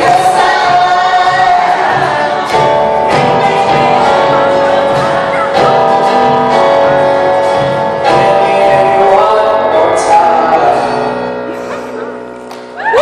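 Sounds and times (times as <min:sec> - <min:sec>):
voices singing together: 0:00.0 - 0:10.9
strummed acoustic guitar: 0:00.0 - 0:11.4.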